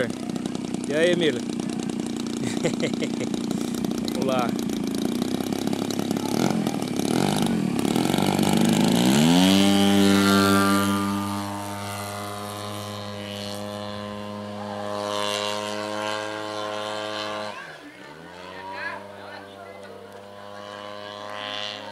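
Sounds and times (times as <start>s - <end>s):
model plane engine and propeller: 0.0s - 21.9s.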